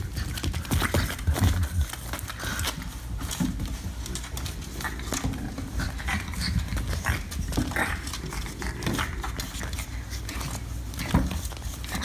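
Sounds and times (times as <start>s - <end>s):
puppy paws tapping on floor: 0.0s - 12.0s.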